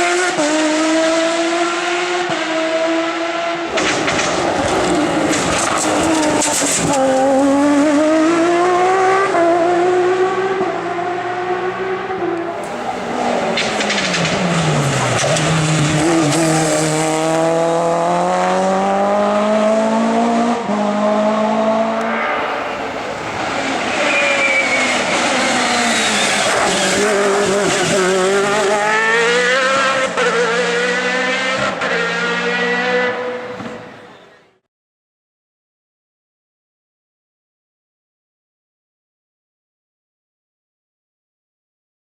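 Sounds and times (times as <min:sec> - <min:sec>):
racing car engine at high revs: 0:00.0 - 0:34.2.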